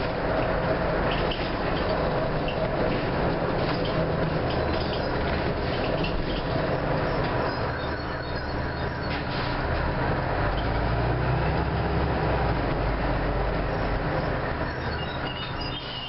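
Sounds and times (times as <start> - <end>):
bus engine drone: 0.0 - 16.0
road rumble: 0.0 - 16.0.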